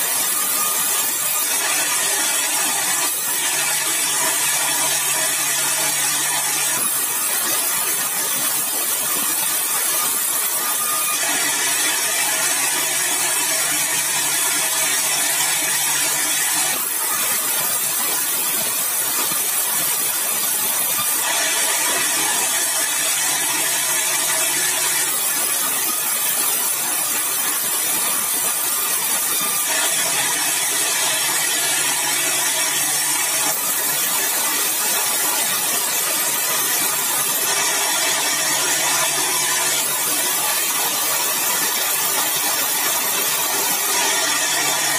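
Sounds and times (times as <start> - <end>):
sawmill saw cutting wood: 0.0 - 44.9.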